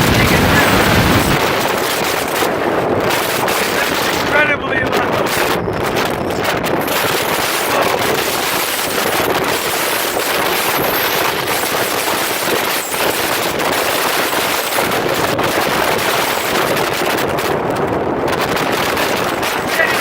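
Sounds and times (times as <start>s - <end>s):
storm wind blasting microphone: 0.0s - 20.0s.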